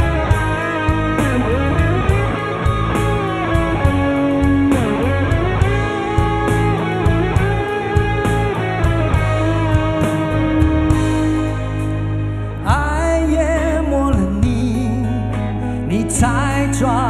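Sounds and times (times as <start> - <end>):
drums steady beat: 0.0 - 15.0
bass guitar: 0.0 - 17.0
electric guitar melody: 0.0 - 17.0.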